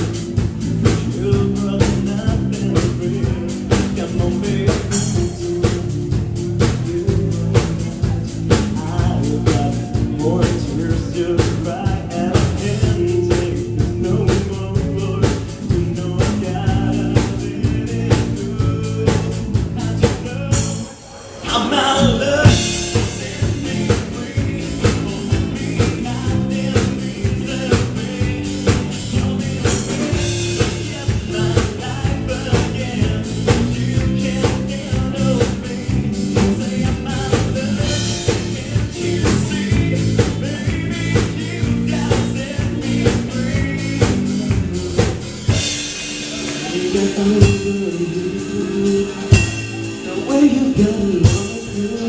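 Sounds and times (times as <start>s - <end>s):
rock band playing live: 0.0s - 52.0s
person singing: 0.8s - 52.0s.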